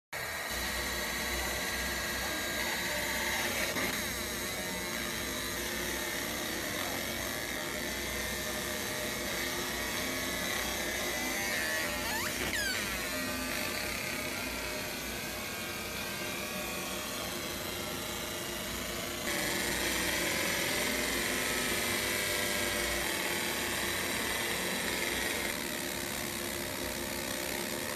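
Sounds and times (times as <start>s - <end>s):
laser marking machine buzzing: 0.2s - 27.9s.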